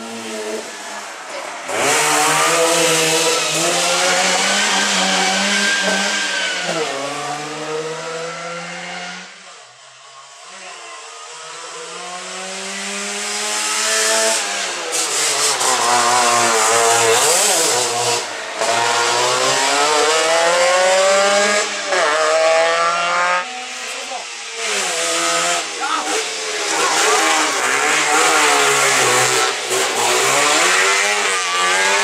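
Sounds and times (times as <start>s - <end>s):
rally car engine driven hard: 0.0s - 9.7s, 10.3s - 32.0s.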